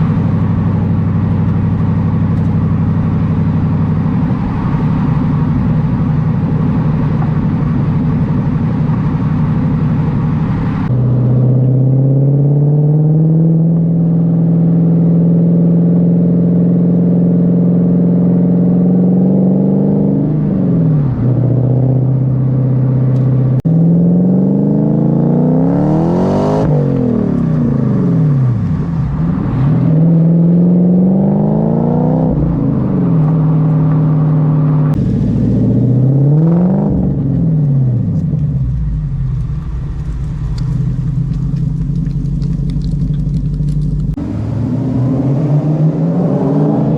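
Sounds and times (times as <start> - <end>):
car engine exhaust revving: 0.0 - 46.9.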